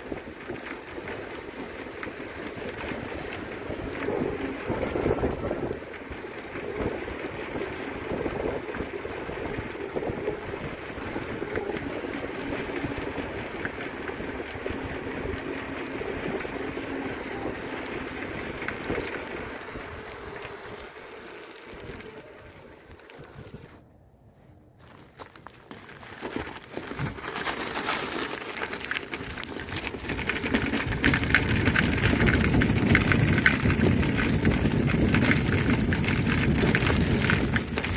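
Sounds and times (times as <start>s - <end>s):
bicycle tyres rolling: 0.0s - 23.8s, 24.8s - 37.9s
wind buffeting microphone: 0.0s - 24.6s, 29.2s - 37.9s.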